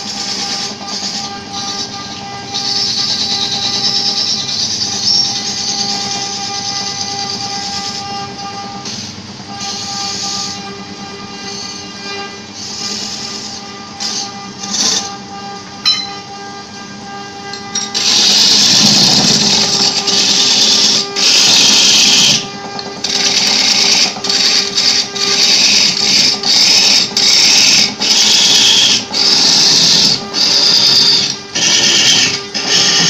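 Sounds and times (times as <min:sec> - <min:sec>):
turning tool cutting wood: 0:00.0 - 0:08.1, 0:08.9 - 0:15.3, 0:17.6 - 0:33.0
lathe motor hum: 0:00.0 - 0:33.0.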